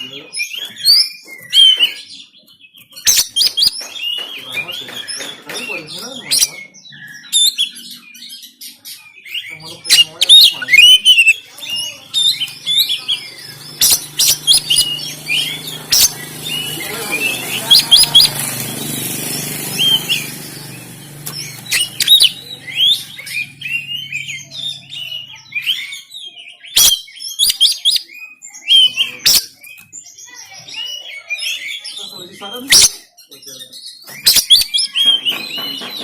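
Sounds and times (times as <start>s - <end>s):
bird singing whistles and chirps: 0.0s - 36.0s.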